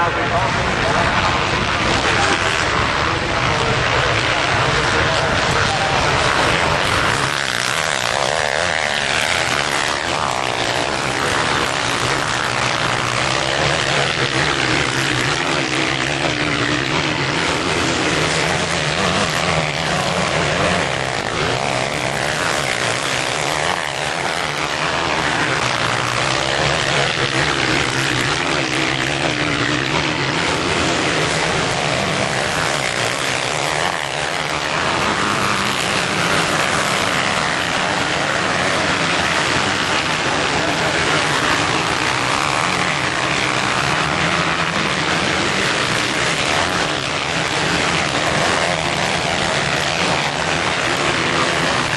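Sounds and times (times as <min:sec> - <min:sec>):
motocross bikes revving: 0:00.0 - 0:51.9.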